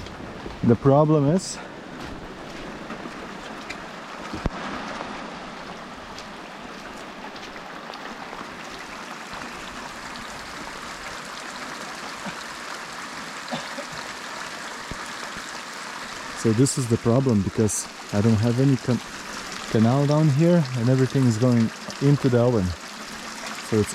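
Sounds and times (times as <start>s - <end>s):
steady rain falling: 0.0s - 23.9s
rainwater trickling: 2.8s - 23.9s.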